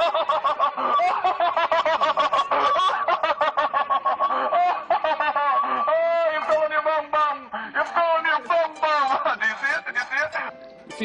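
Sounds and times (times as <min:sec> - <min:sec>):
high-pitched cackling: 0:00.0 - 0:10.5.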